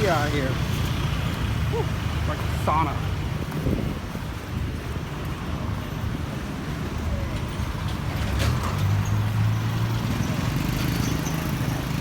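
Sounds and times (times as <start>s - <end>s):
background traffic rumble: 0.0s - 12.0s.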